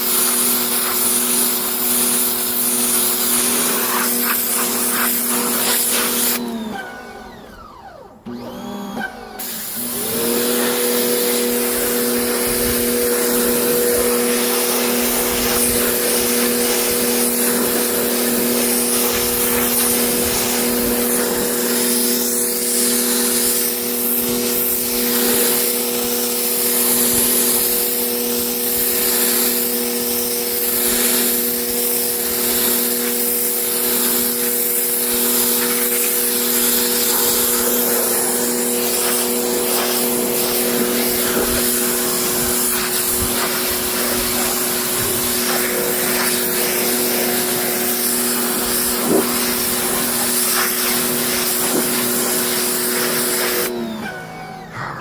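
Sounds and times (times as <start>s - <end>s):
water jet spraying carpet: 0.0s - 6.4s, 8.3s - 54.0s
pressure washer motor hum: 0.0s - 55.0s.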